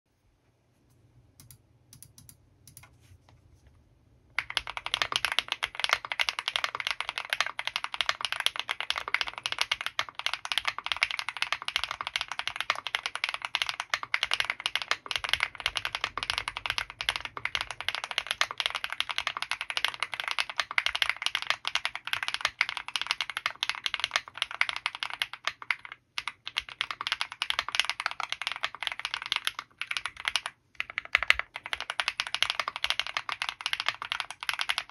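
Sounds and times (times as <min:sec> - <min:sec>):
fast typing on mechanical keyboard: 0:01.4 - 0:02.8, 0:04.4 - 0:34.9.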